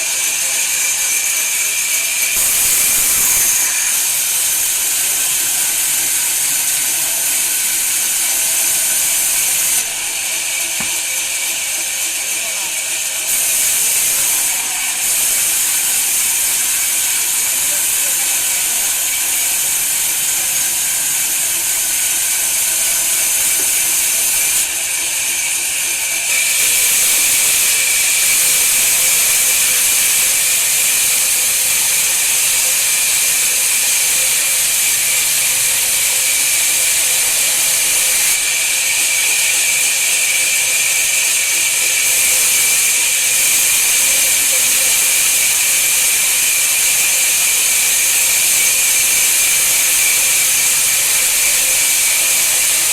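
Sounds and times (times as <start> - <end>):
thin high whine: 0.0 - 52.9
woodworking machine hissing: 0.0 - 52.9.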